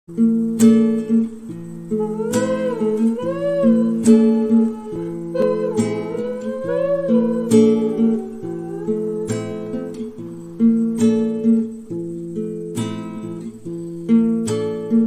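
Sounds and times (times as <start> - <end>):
acoustic guitar strumming chords: 0.1 - 15.0.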